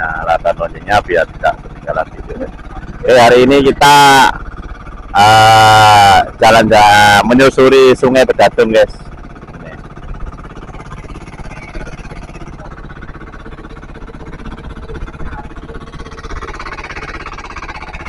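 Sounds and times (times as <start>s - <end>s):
small boat engine running: 0.0s - 18.0s
water washing along hull: 0.0s - 18.0s.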